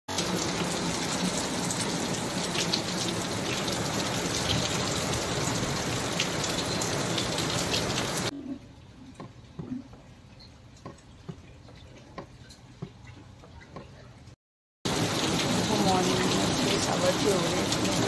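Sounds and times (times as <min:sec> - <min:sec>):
rain falling: 0:00.1 - 0:11.6, 0:14.9 - 0:18.0.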